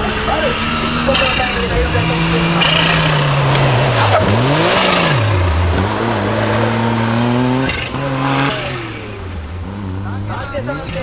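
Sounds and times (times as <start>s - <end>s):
small car engine revving: 0.0s - 11.0s.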